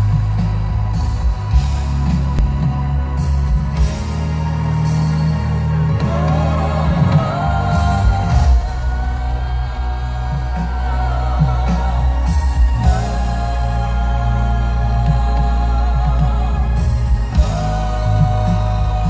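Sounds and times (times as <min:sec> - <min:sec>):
live pop band with heavy bass: 0:00.0 - 0:19.0
person singing: 0:00.0 - 0:19.0.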